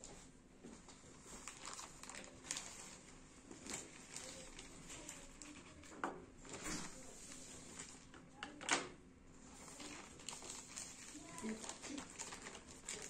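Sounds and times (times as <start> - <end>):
plastic bag rustling: 0.9 - 8.2, 9.4 - 13.0.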